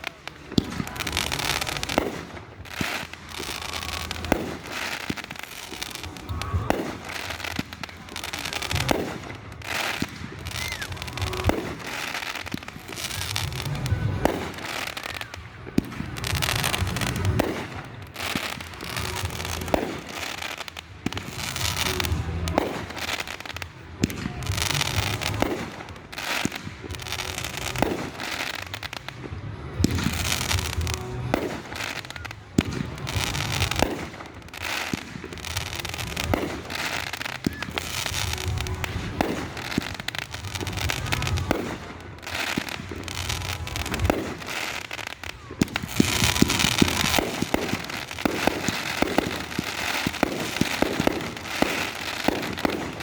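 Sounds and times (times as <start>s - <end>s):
firework bangs: 0.0s - 53.0s
firework crackling: 0.0s - 53.0s.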